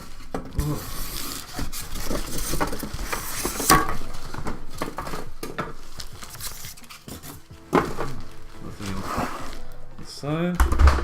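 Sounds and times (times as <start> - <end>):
box bumping: 0.0 - 9.7, 10.6 - 11.0
cardboard packaging rustling: 0.0 - 10.5.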